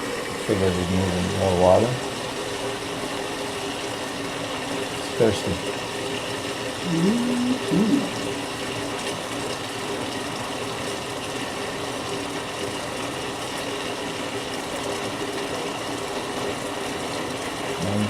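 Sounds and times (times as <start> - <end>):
washing machine hum: 0.0 - 18.0
water fill rushing: 0.0 - 18.0.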